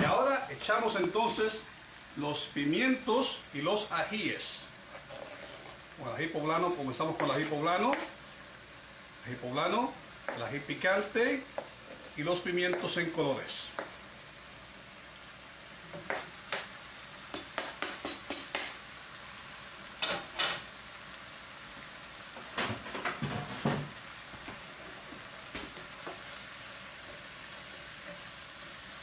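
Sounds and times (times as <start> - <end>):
frying sizzle in skillet: 0.0 - 29.0.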